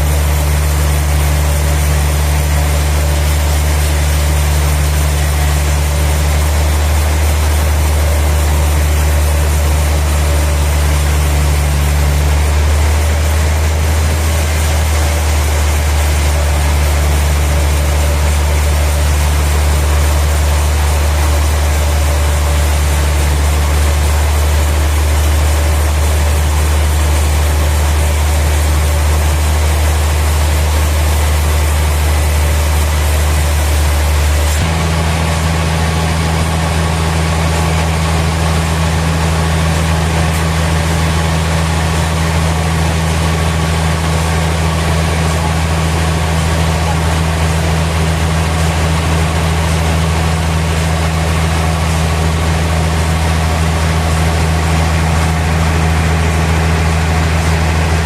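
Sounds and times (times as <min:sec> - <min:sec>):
sawmill machinery droning: 0:00.0 - 0:58.0.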